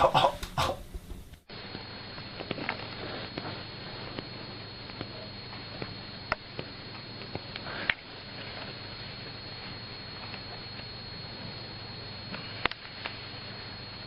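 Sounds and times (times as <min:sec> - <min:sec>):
faint high whine: 0:00.0 - 0:14.0
steady hiss: 0:00.0 - 0:14.0.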